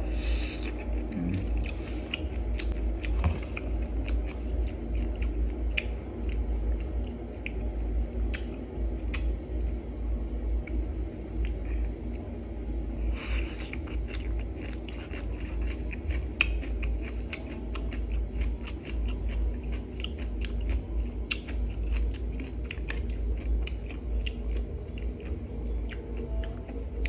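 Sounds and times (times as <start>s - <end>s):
steady low hum: 0.0s - 27.0s
person chewing crunchy food: 0.1s - 9.3s, 13.1s - 27.0s.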